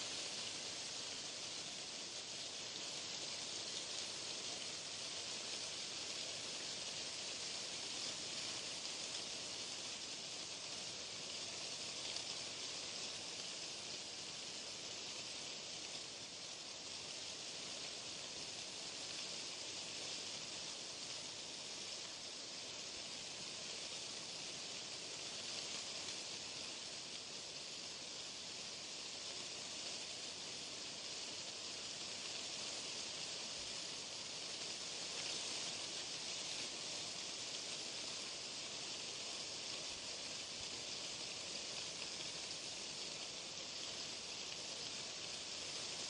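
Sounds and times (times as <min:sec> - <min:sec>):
white noise hiss: 0:00.0 - 0:46.0.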